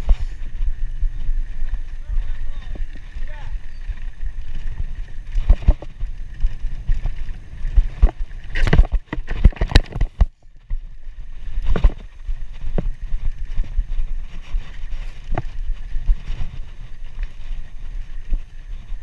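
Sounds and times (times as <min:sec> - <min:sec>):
bike rattling over bumps: 0:00.0 - 0:19.0
wind rumble on microphone: 0:00.0 - 0:19.0.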